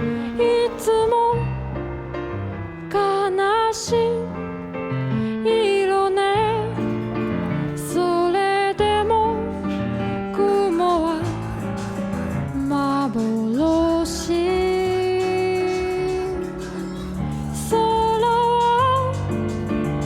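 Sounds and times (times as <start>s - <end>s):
soft instrumental accompaniment: 0.0s - 20.0s.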